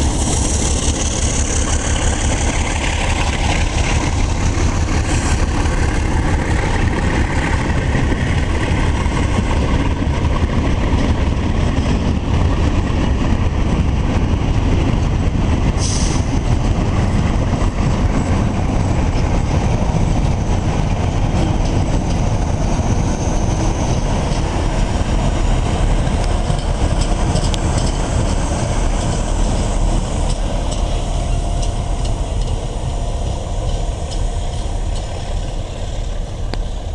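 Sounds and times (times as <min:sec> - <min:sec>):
diesel locomotive engine: 0:00.0 - 0:36.9
wagons rumbling over track: 0:00.0 - 0:36.9.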